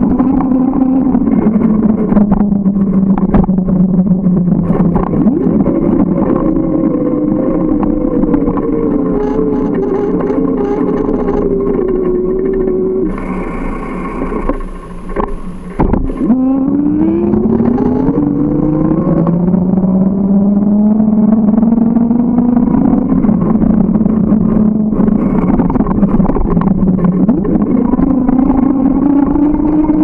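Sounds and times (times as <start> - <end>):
vehicle engine accelerating: 0.0 - 30.0.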